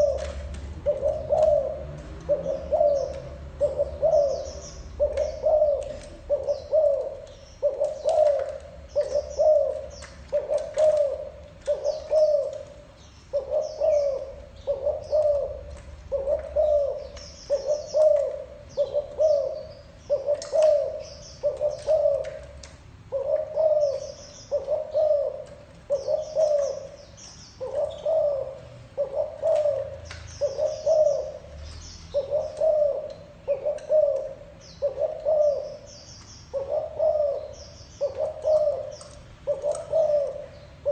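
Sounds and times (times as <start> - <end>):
dove cooing: 0.0 - 40.9
small birds chirping: 0.0 - 40.9.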